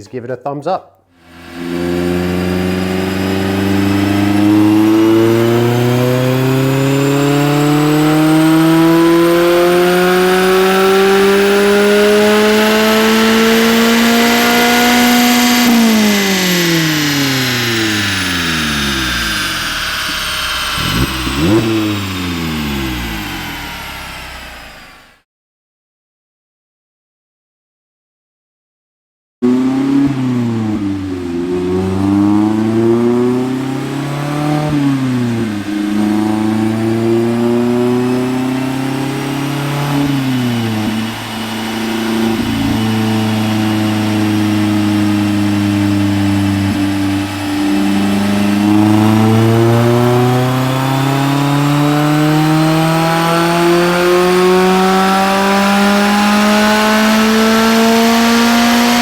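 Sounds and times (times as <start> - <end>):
car engine revving on dyno: 1.2 - 25.2, 29.4 - 59.0.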